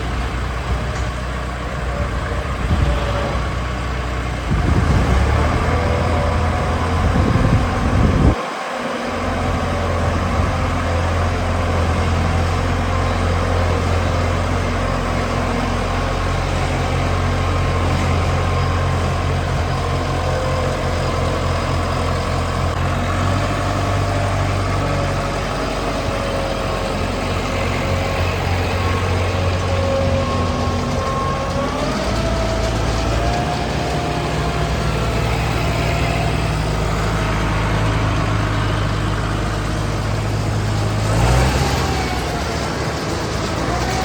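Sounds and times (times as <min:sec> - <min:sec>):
heavy farm machinery engine: 0:00.0 - 0:44.0.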